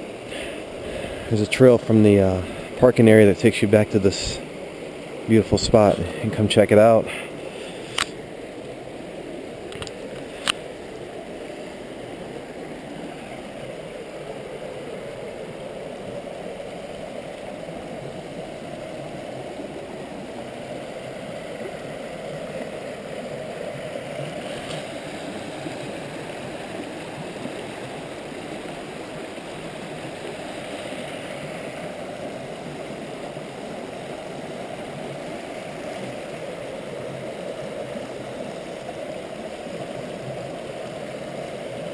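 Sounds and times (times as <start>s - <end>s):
water rushing through rapids: 0.0s - 41.9s.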